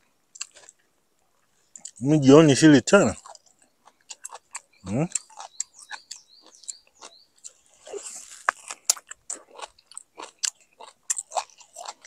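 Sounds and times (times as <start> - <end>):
person chewing mango: 0.3 - 2.0, 3.0 - 12.0.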